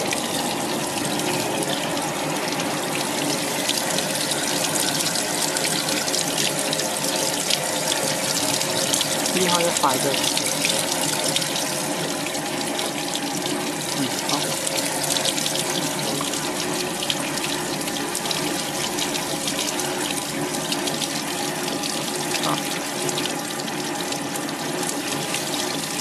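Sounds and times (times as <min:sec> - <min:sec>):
faint motor hum: 0:00.0 - 0:26.0
running water rushing: 0:00.0 - 0:26.0.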